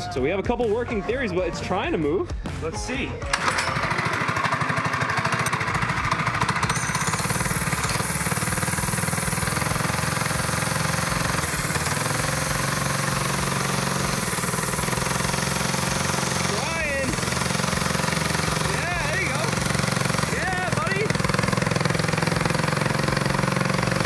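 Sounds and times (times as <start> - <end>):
small engine with open exhaust: 3.3 - 24.0.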